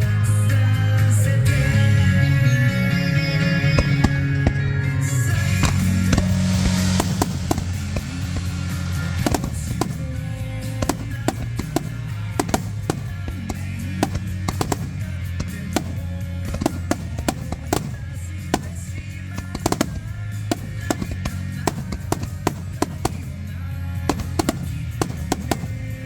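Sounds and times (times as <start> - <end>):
fireworks bursting and crackling: 3.8 - 26.0.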